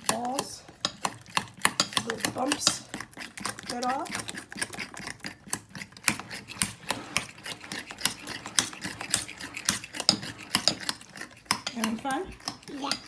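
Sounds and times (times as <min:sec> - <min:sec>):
fork beating batter in bowl: 0:00.0 - 0:13.0.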